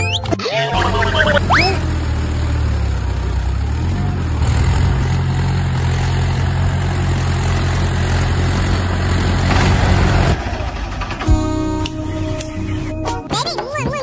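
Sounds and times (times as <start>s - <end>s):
small tractor engine running: 0.0s - 12.9s.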